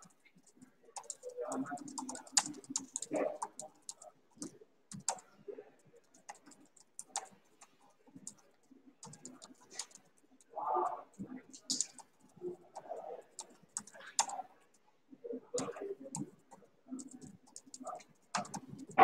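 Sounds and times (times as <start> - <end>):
typing on laptop keyboard: 0.0 - 14.7, 15.5 - 19.0.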